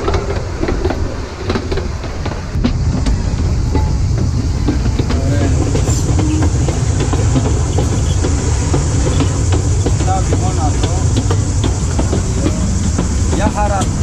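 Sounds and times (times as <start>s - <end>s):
train carriage rumbling: 0.0s - 14.0s
wheels clicking on rails: 0.0s - 14.0s.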